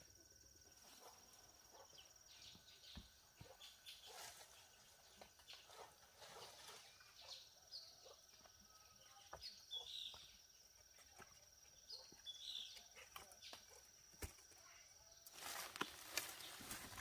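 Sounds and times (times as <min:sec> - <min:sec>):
small bird chirping: 0:00.7 - 0:17.0.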